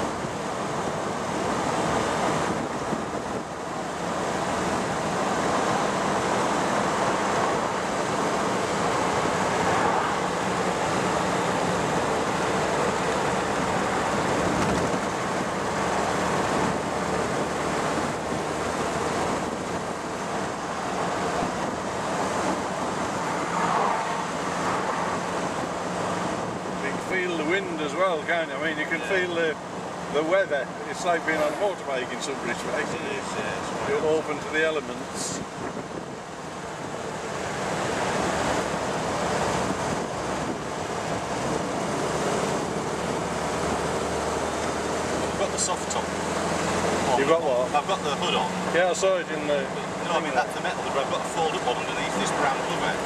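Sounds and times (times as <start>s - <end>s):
car engine running: 0.0s - 53.0s
wind and road noise: 0.0s - 53.0s.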